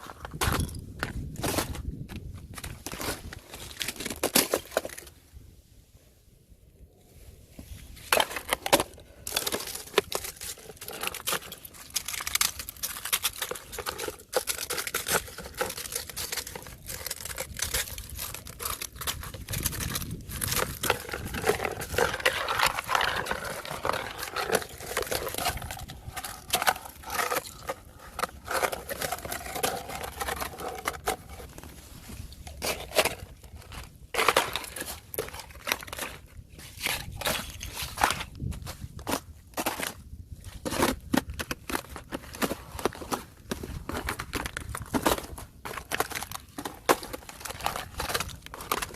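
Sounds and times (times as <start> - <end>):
thin ice cracking and crunching: 0.0 - 5.2, 7.8 - 48.9.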